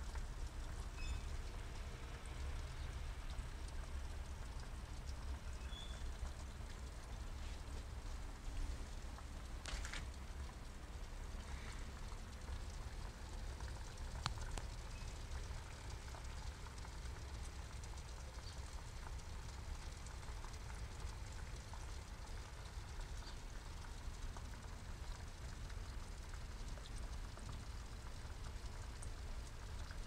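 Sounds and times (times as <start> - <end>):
water stream splashing into pond: 0.0 - 30.0.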